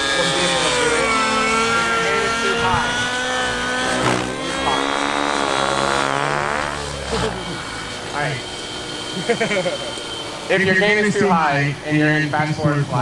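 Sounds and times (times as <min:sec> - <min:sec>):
rc helicopter engine and rotor whine: 0:00.0 - 0:13.0.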